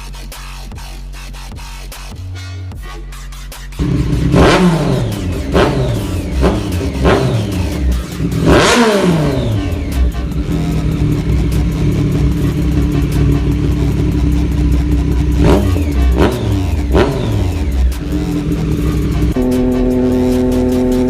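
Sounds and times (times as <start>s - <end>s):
motorcycle engine revving: 3.7s - 21.0s.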